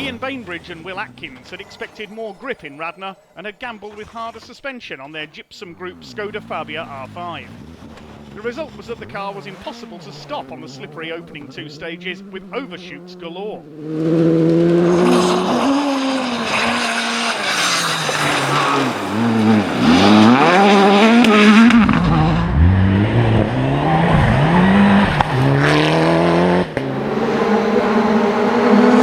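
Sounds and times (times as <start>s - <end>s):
rally car engine revving: 0.0s - 2.7s, 5.8s - 29.0s.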